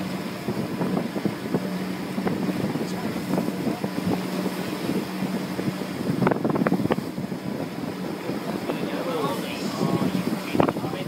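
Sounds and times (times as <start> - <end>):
motor boat engine running: 0.0 - 11.0
wind buffeting microphone: 0.0 - 11.0.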